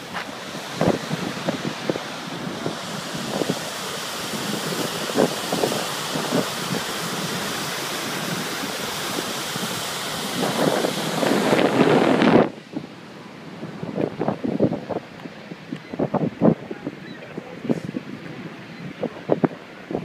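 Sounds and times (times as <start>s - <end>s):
waterfall rushing: 0.0s - 20.0s
wind buffeting microphone: 0.0s - 20.0s.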